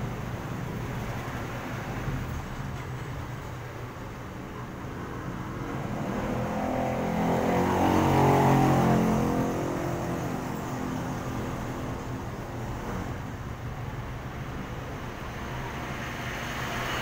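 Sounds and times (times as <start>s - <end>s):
motorcycles passing: 0.0s - 17.0s
street traffic: 0.0s - 17.0s.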